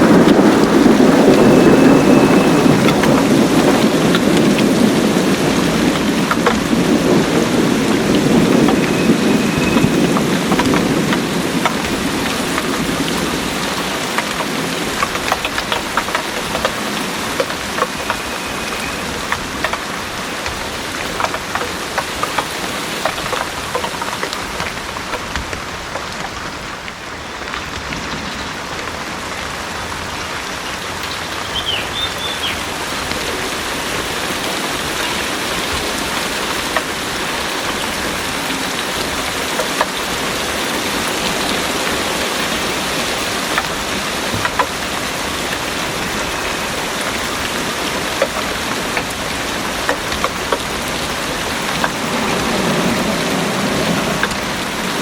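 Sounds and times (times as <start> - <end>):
heavy rain pouring: 0.0 - 55.0
raindrops tapping close by: 0.0 - 55.0.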